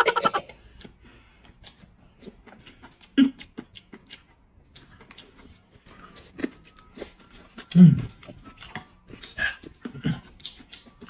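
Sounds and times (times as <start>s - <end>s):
soft chewing: 0.2s - 11.0s.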